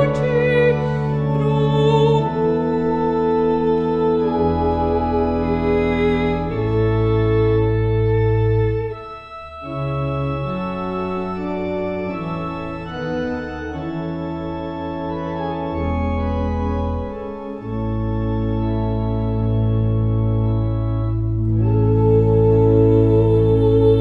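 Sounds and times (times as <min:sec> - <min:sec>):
organ playing slow chords: 0:00.0 - 0:24.0.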